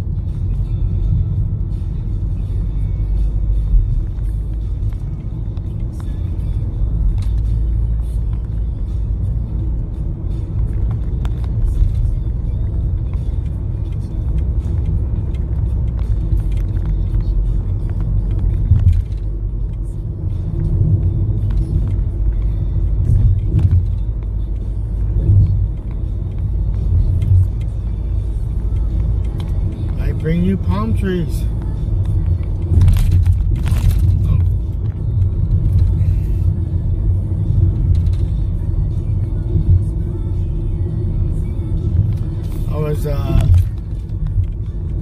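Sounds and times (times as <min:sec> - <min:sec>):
car road rumble and engine: 0:00.0 - 0:45.0
faint music: 0:00.0 - 0:45.0.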